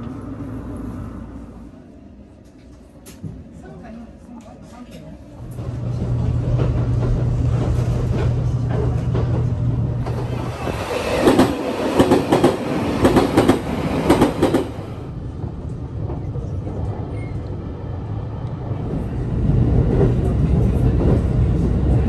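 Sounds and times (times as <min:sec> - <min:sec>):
train low hum: 0:00.0 - 0:22.0.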